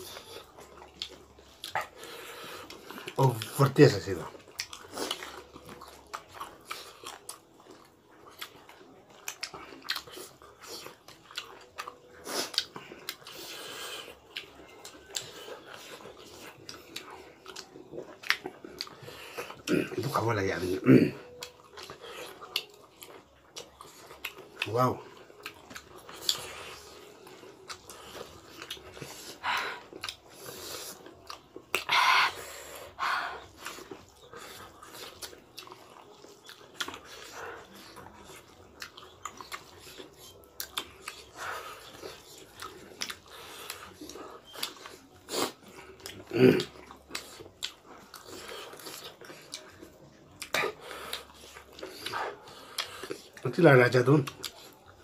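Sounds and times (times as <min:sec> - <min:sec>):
people chewing food: 0:00.0 - 0:55.0.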